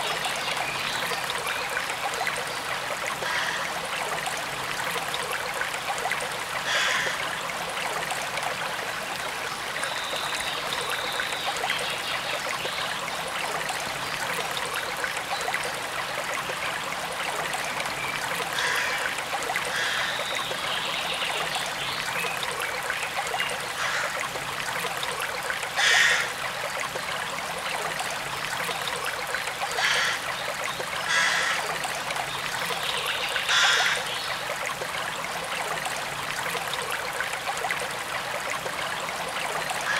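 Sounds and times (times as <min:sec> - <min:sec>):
forest stream running: 0:00.0 - 0:39.9.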